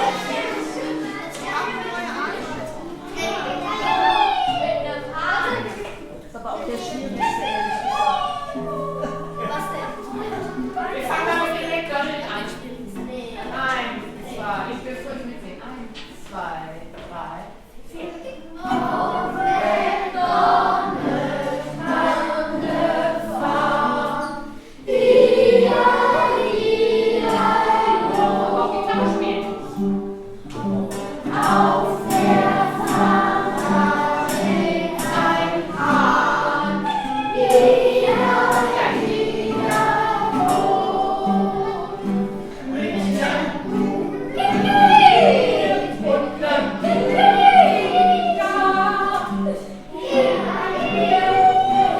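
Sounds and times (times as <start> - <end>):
group of voices singing: 0.0 - 5.9, 6.8 - 11.6, 18.6 - 51.9.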